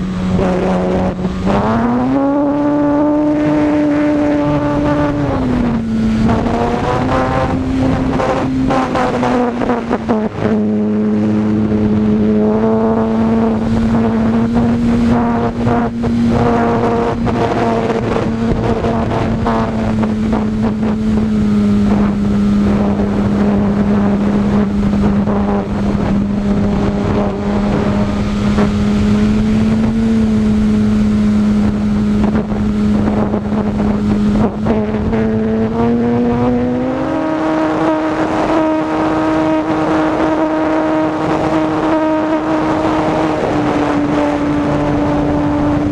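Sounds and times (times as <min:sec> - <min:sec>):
electric motor and propeller whine: 0:00.0 - 0:45.9.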